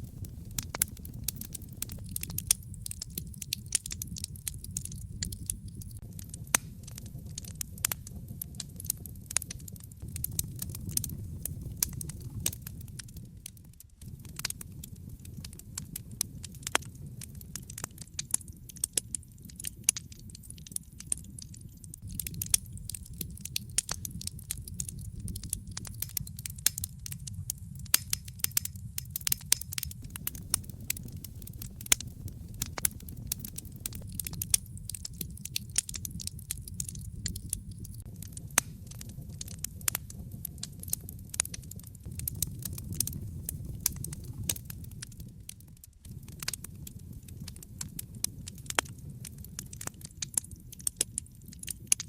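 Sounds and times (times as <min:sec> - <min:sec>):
fire crackling and popping: 0:00.0 - 0:52.0
fire flames rumbling: 0:00.0 - 0:52.0.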